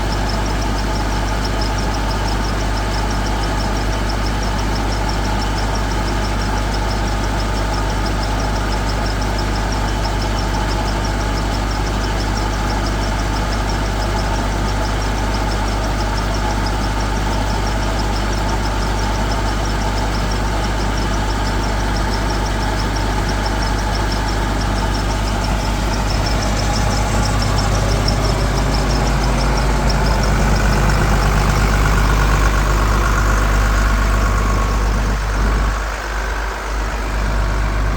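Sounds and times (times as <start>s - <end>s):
water pump engine drone: 0.0s - 37.9s.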